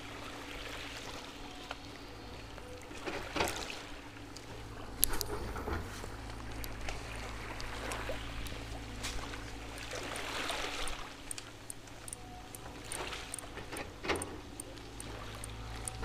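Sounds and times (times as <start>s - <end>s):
seawater sloshing and trickling: 0.0s - 16.0s
steady low hum: 0.0s - 16.0s.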